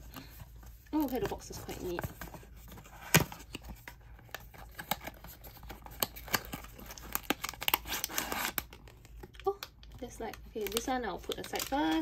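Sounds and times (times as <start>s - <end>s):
cardboard clicks and rustles: 0.0s - 9.8s.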